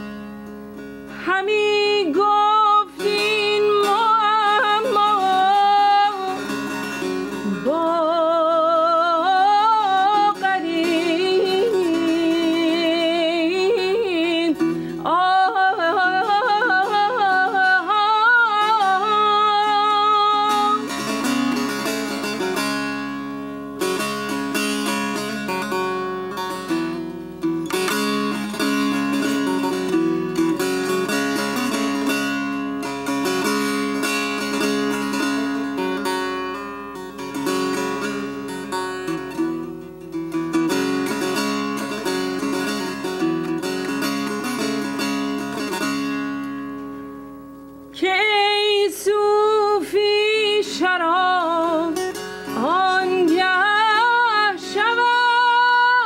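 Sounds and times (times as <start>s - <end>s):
plucked strings: 0.0s - 56.0s.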